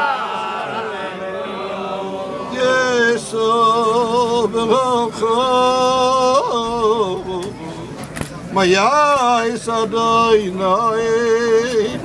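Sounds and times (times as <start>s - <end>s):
men singing together: 0.0s - 7.6s, 8.6s - 12.0s.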